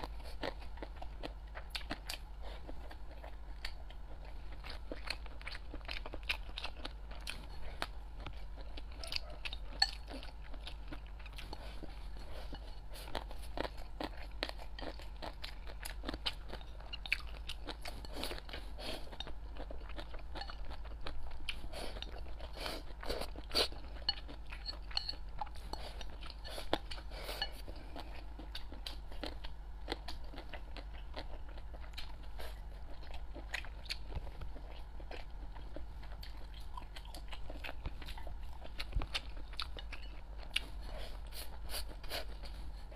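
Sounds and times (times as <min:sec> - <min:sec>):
chewing and crunching rice: 0:00.0 - 0:42.9.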